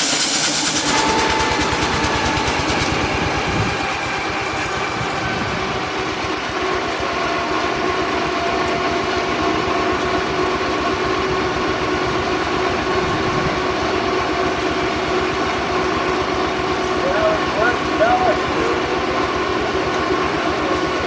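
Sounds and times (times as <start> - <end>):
sawmill machinery rumbling: 0.0 - 21.0.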